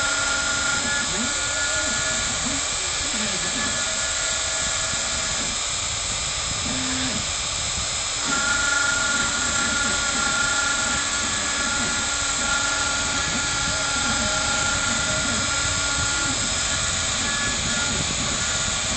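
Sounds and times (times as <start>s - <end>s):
cnc router spindle whining: 0.0s - 18.9s
hiss of cutting wood: 0.0s - 18.9s.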